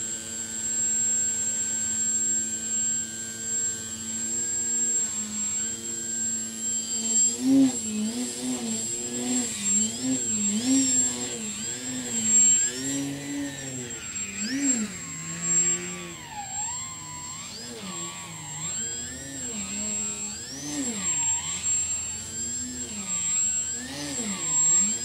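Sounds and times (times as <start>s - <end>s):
model plane motor whining: 0.0s - 25.0s.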